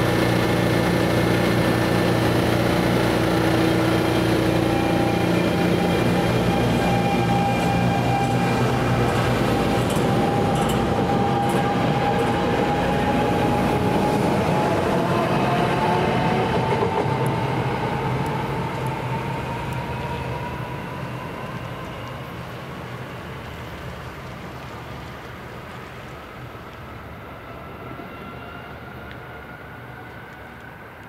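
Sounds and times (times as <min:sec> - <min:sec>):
train high whine: 0:00.0 - 0:31.0
train wheels rumbling on rails: 0:00.0 - 0:31.0.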